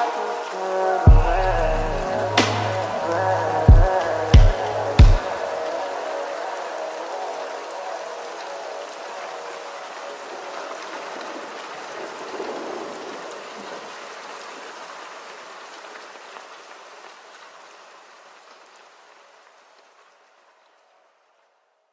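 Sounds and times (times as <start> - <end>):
falling rain: 0.0 - 21.9.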